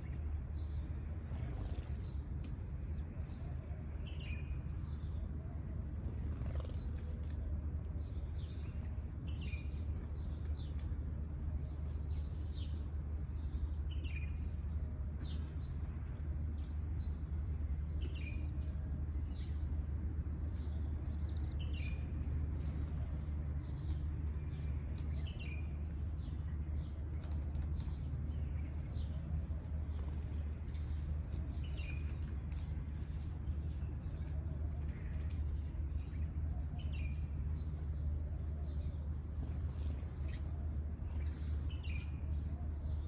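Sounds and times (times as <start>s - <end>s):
sparrows chirping: 0.0s - 2.3s, 3.0s - 5.4s, 6.0s - 10.8s, 11.5s - 15.9s, 20.4s - 43.0s
continuous low rumble: 0.0s - 43.0s.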